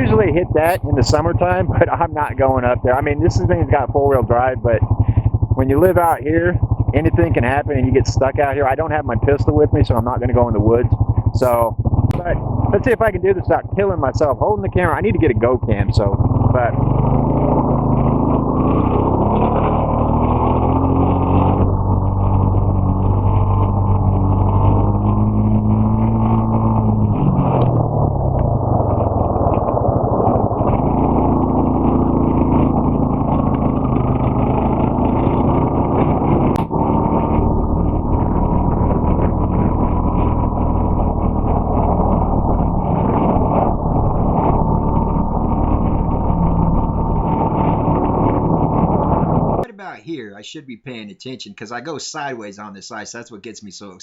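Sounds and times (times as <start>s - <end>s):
atv engine running: 0.0s - 49.7s.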